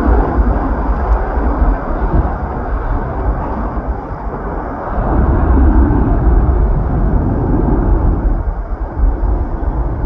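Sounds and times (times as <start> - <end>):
jet engines at takeoff thrust: 0.0 - 10.0.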